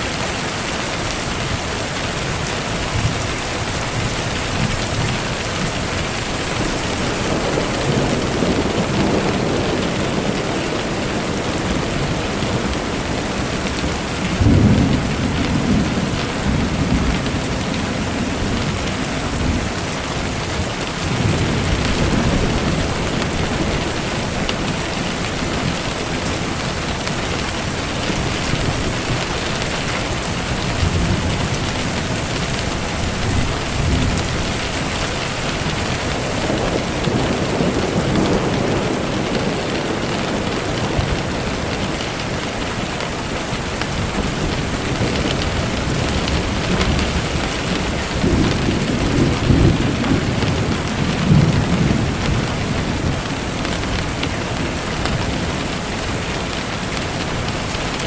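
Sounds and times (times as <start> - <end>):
steady rain: 0.0 - 58.0
rolling thunder: 1.0 - 55.7.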